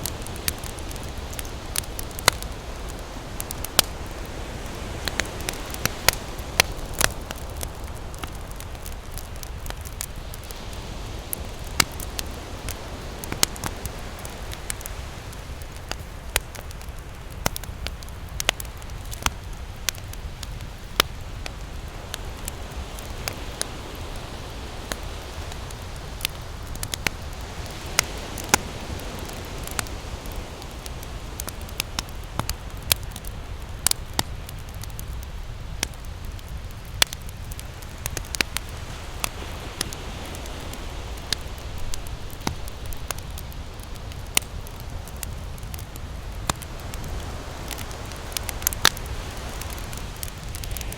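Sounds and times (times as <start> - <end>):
campfire crackling and popping: 0.0 - 50.9
ocean surf rumbling: 0.0 - 50.9.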